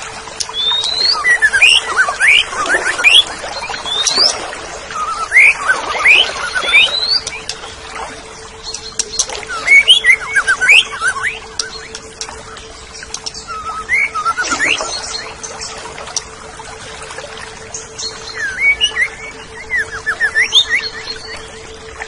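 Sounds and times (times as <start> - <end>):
thrush singing whistled notes: 0.0 - 22.0.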